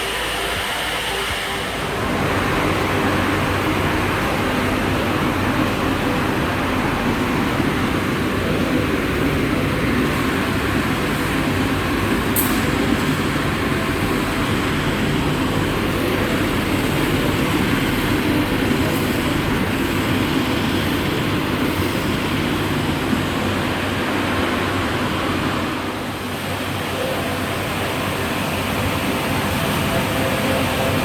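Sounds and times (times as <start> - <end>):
industrial machinery running: 0.0 - 31.0.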